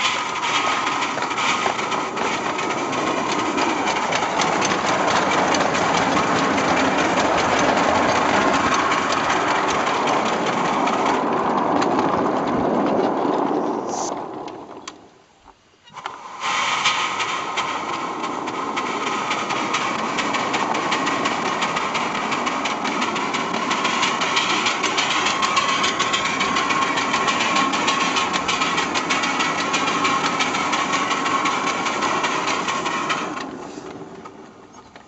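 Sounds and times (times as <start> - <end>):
steam exhaust: 0.0 - 11.9, 13.5 - 14.3, 16.0 - 34.1
wheels on rails: 0.0 - 35.0.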